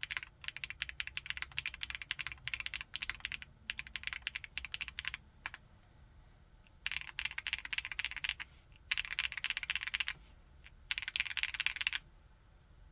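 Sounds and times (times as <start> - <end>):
mechanical keyboard typing: 0.0 - 5.6, 6.8 - 12.0.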